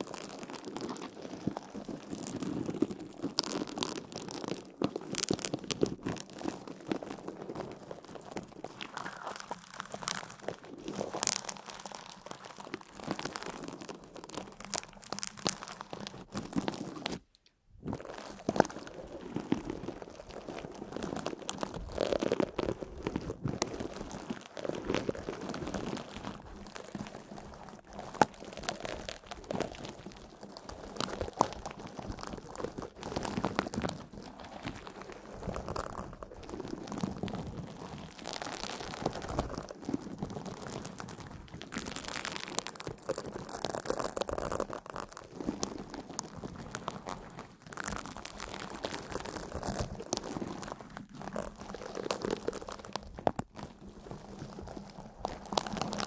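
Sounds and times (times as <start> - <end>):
close crunching and crinkling: 0.0 - 56.0.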